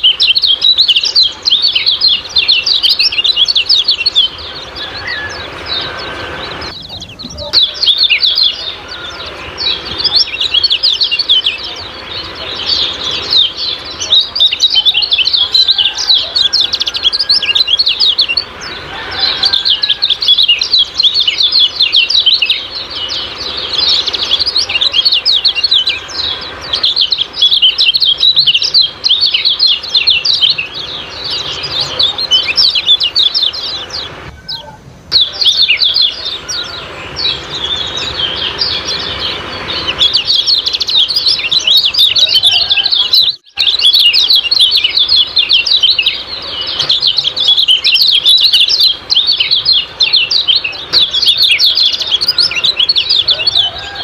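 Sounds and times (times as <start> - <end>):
bird chirping rapidly: 0.0 - 54.0.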